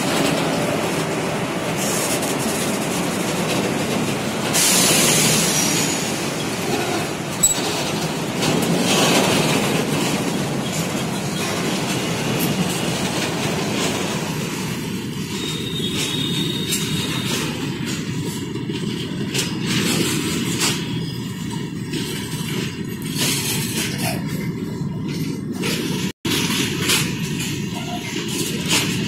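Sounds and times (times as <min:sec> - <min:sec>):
train wheels rumbling on rail: 0:00.0 - 0:29.0
wheels clattering over rail joints: 0:00.0 - 0:29.0.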